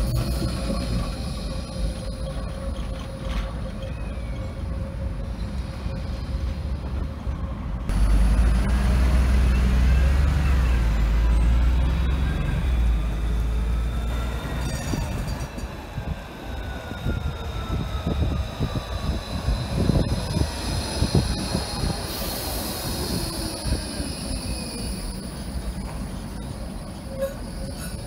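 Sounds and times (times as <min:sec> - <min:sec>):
tram wheels squealing on curve: 0:00.0 - 0:07.6, 0:09.0 - 0:28.0
tram rumble: 0:00.0 - 0:28.0.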